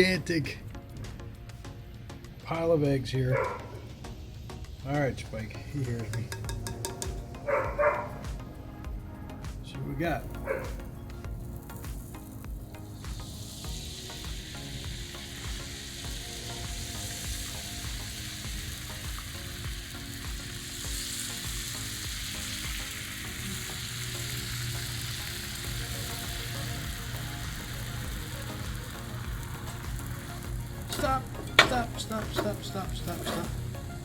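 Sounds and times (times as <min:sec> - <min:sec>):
eggs sizzling on a griddle: 0:00.8 - 0:34.0.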